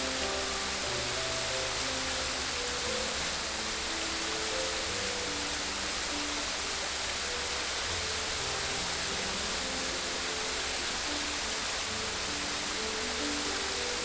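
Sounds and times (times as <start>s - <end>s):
running water rushing: 0.0s - 14.0s
soft slow melody: 0.0s - 14.0s.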